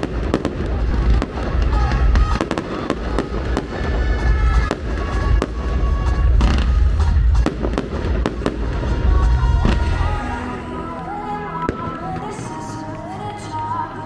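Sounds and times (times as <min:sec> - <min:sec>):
fireworks bangs: 0:00.0 - 0:12.9
music playing: 0:00.0 - 0:14.0.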